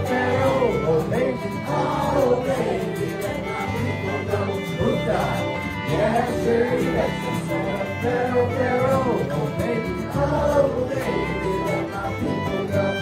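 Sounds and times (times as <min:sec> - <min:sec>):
country music with fiddle and guitar: 0:00.0 - 0:13.0.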